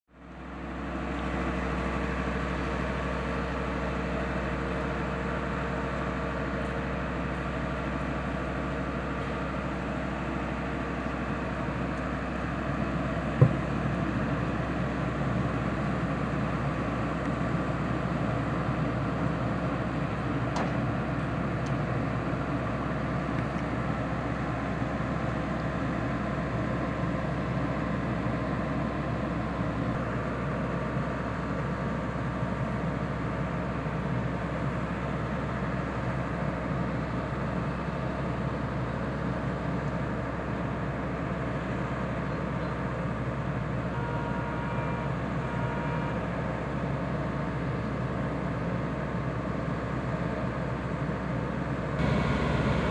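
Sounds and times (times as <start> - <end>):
paver diesel engine running: 0.1 - 52.9
truck engine: 0.2 - 44.1, 44.8 - 52.9.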